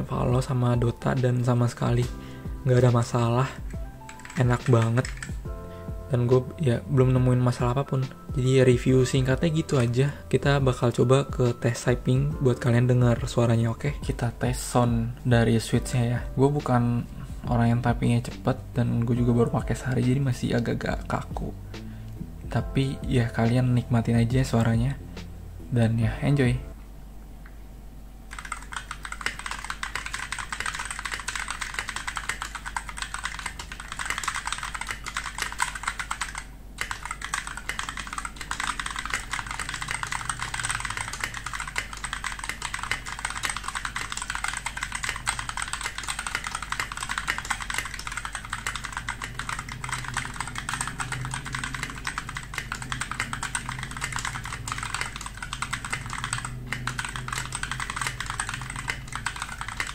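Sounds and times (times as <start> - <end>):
mechanical keyboard typing: 0.2 - 14.6, 19.1 - 21.4, 28.3 - 59.9.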